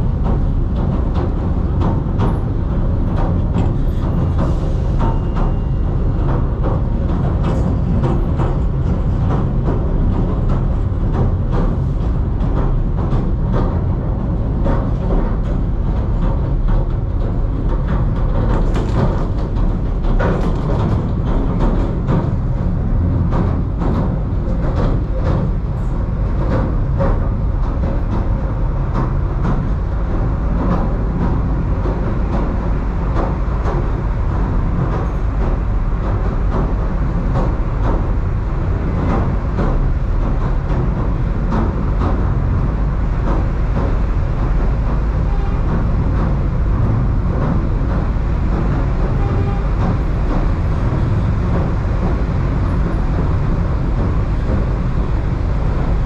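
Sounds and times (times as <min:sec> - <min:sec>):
train rumbling inside carriage: 0:00.0 - 0:56.0.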